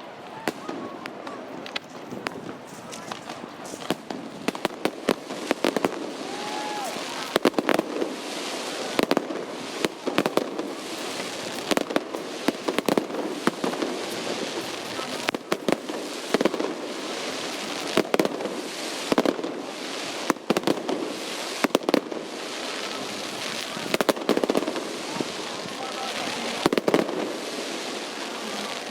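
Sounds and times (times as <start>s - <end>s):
firework bangs and shell bursts: 0.4s - 28.6s.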